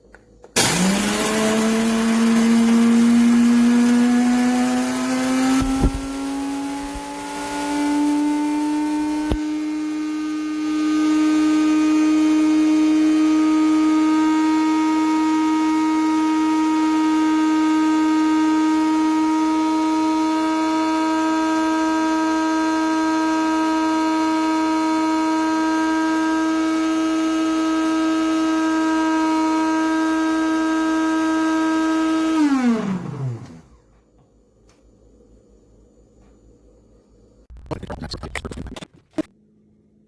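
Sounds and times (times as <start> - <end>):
coffee grinder motor whining: 0.6 - 33.8.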